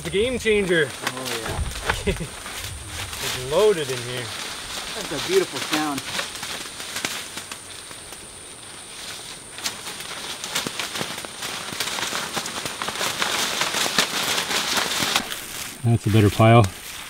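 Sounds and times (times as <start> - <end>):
berries pattering on plastic tarp: 0.0 - 17.0.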